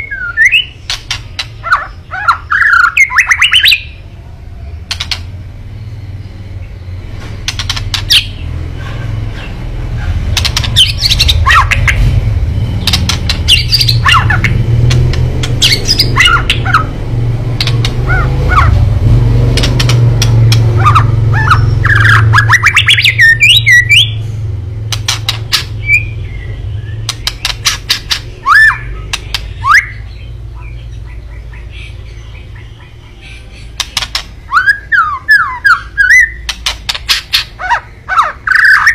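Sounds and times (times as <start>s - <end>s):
bird calls with clicks and whistles: 0.0s - 3.9s, 4.9s - 5.4s, 7.4s - 12.1s, 12.8s - 16.9s, 17.6s - 18.8s, 19.6s - 24.2s, 24.8s - 38.9s
low steady rumble: 0.0s - 38.9s.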